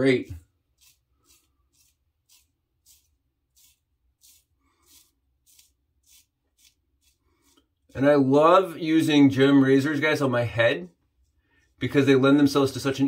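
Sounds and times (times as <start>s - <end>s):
razor scraping stubble: 0.0s - 12.9s.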